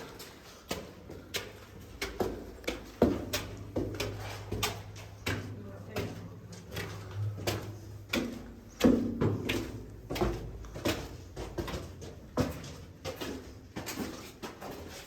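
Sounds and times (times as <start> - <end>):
footsteps climbing stairs: 0.0 - 15.0.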